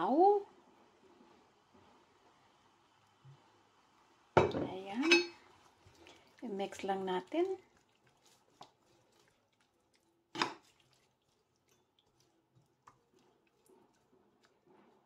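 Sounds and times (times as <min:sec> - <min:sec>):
spatula stirring food in broth: 0:00.8 - 0:15.0.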